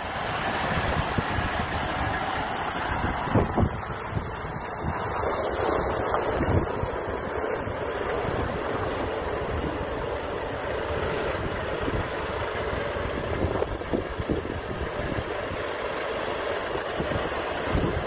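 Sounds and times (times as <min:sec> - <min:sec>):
truck diesel engine driving past: 0:00.0 - 0:18.0
wind buffeting microphone: 0:00.0 - 0:18.0.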